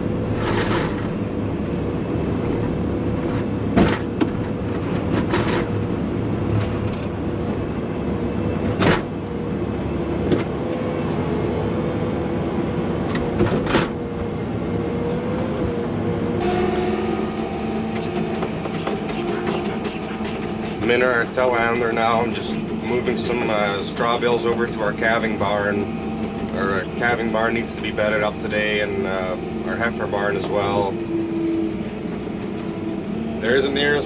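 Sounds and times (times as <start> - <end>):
diesel engine whining: 0.0 - 34.0.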